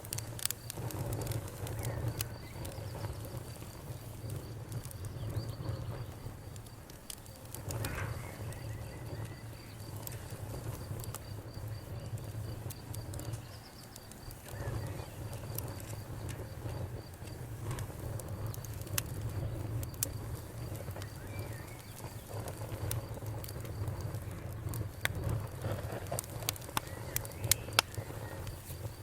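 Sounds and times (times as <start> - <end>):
cricket trilling: 0.0 - 29.0
wood fire crackling: 0.0 - 29.0.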